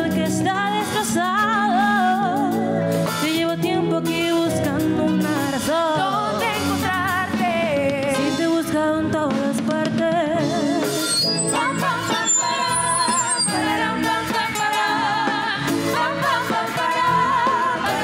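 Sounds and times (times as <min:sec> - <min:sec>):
live band music: 0:00.0 - 0:18.0
women singing: 0:00.0 - 0:18.0.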